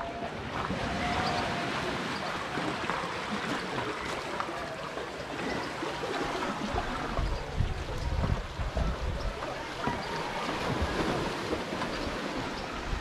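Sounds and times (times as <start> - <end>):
sea breeze: 0.0 - 13.0
small waves lapping: 0.0 - 13.0.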